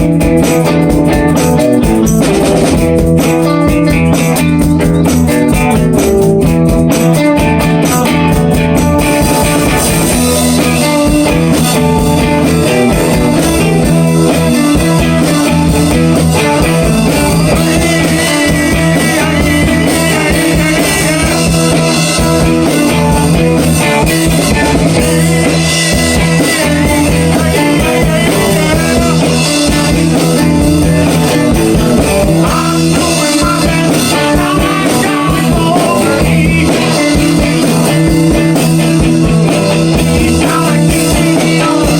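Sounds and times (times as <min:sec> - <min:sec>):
drum kit: 0:00.0 - 0:41.9
electric guitar riff: 0:00.0 - 0:41.9.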